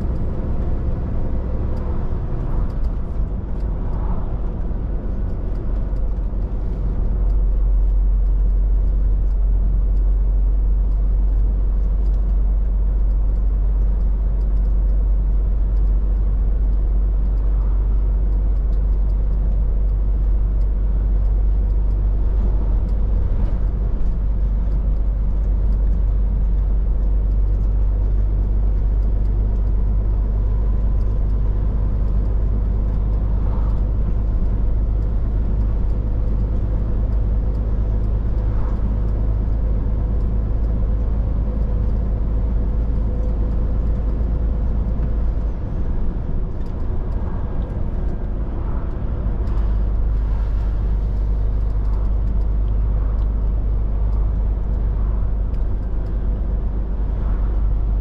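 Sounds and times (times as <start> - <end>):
lorry diesel engine drone: 0.0 - 58.0
road noise: 0.0 - 58.0.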